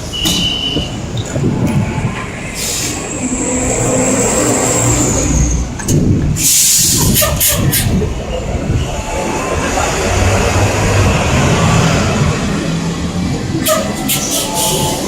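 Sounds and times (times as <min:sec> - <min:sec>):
bus engine passing by: 0:01.3 - 0:15.0.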